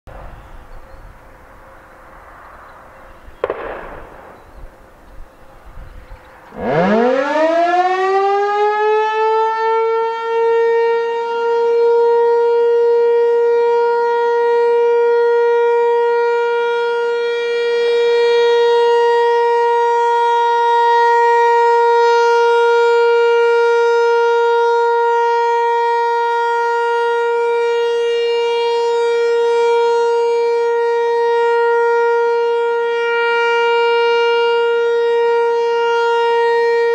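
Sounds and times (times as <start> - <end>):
rotating warning siren: 0.1 - 36.9.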